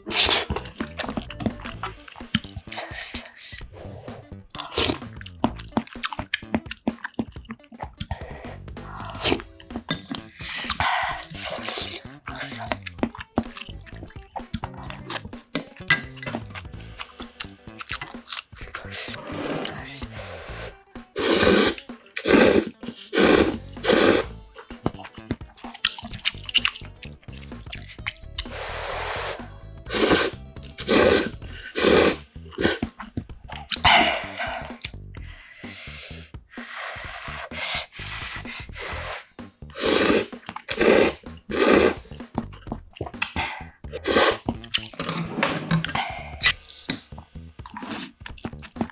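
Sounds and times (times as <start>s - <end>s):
wet chewing with clicks: 0.0s - 28.5s, 29.8s - 36.1s, 39.7s - 45.2s, 45.8s - 48.9s
loud slurping: 0.0s - 48.9s.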